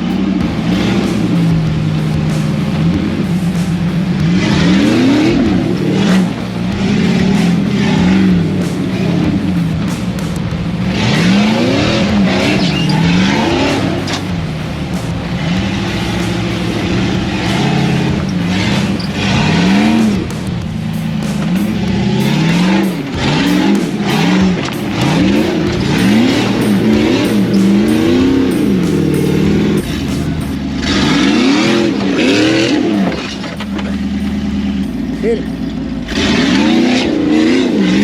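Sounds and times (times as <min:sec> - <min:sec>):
engine revving: 0:00.0 - 0:38.0.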